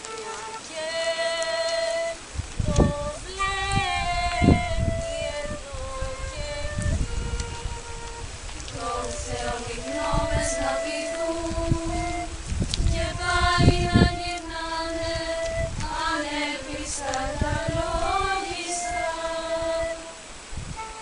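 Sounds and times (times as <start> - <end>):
female choir singing held notes: 0.0 - 7.6, 8.6 - 21.0.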